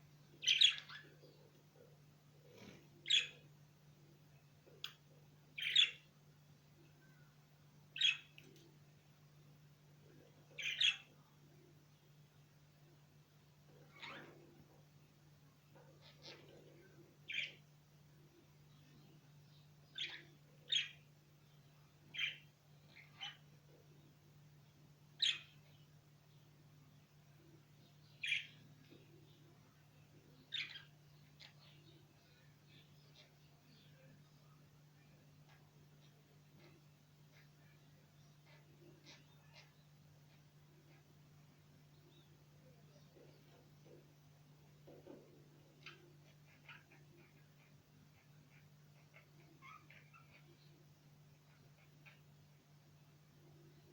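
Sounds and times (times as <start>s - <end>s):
faint low hum: 0.0s - 53.9s
small birds chirping harshly: 0.2s - 9.2s, 9.9s - 53.9s.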